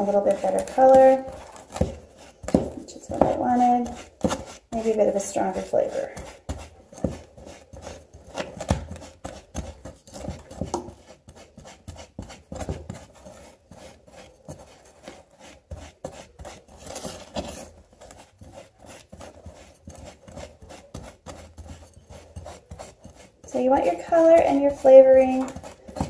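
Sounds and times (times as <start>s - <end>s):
spatula scraping ceramic bowl: 0.0s - 26.0s.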